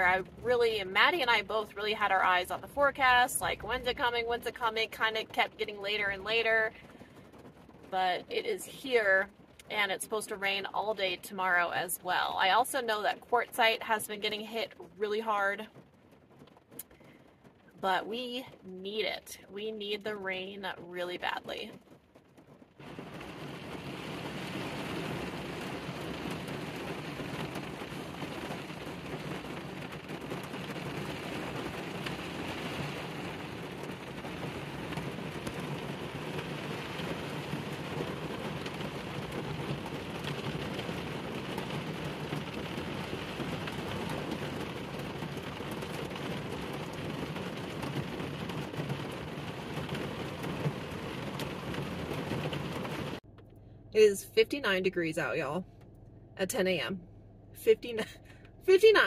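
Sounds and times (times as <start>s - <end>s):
heavy rain on van roof: 0.0s - 53.3s.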